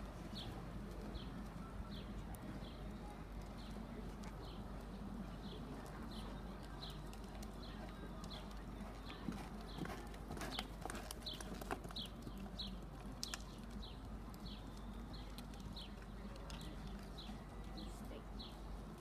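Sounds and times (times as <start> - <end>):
hoofbeats on soft dirt: 0.0 - 19.0.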